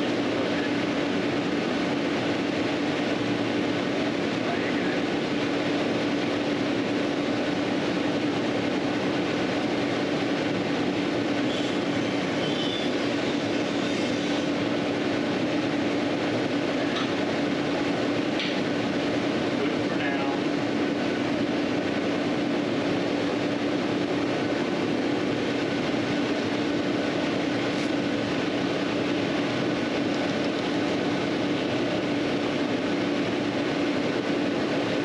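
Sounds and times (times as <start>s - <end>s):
steady machine drone: 0.0s - 35.0s.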